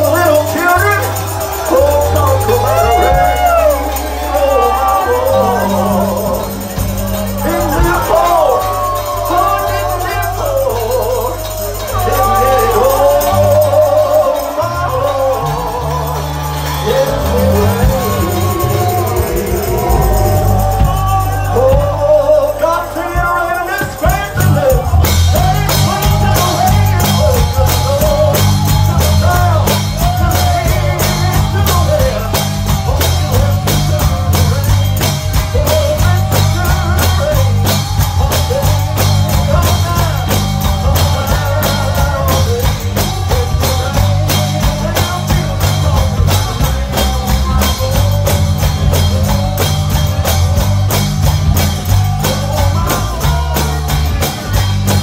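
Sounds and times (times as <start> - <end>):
bass: 0.0 - 55.0
drum kit: 0.0 - 55.0
gospel singing lead voice: 0.0 - 55.0
tambourine: 0.0 - 55.0.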